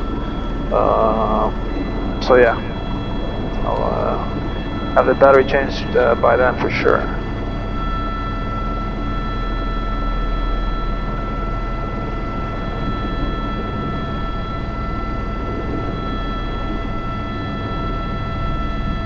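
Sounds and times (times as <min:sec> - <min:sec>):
helicopter engine and rotors: 0:00.0 - 0:19.0.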